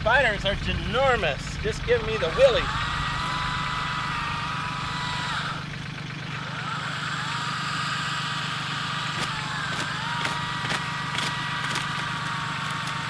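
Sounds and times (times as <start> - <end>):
engine idling: 0.0 - 13.0
high steady whine: 0.0 - 13.0.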